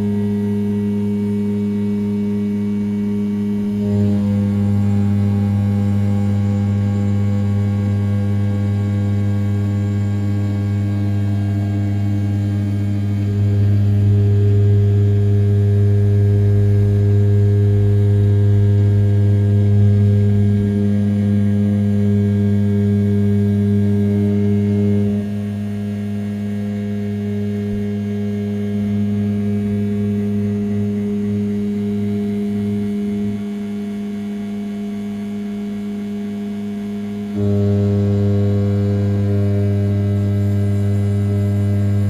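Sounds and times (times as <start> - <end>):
cnc spindle milling metal hum: 0.0 - 42.0.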